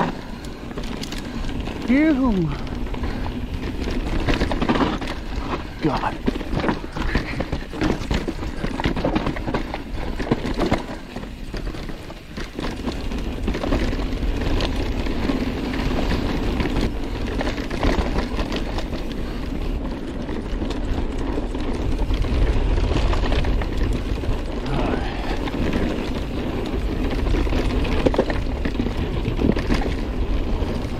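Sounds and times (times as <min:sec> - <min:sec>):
bike rattling over bumps: 0:00.0 - 0:30.9.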